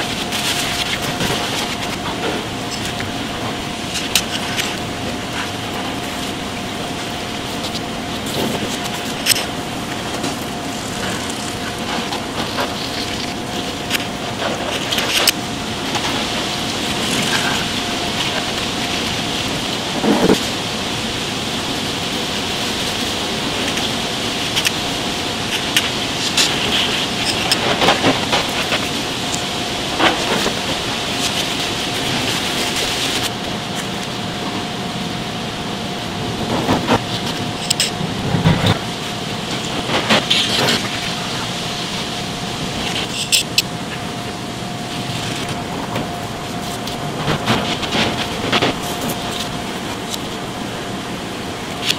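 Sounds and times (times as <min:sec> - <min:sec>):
kitchen background hiss and hum: 0:00.0 - 0:51.9.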